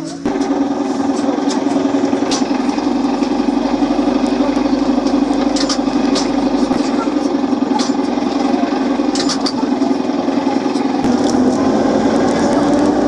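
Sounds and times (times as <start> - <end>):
electrical machinery buzzing drone: 0.0 - 13.0.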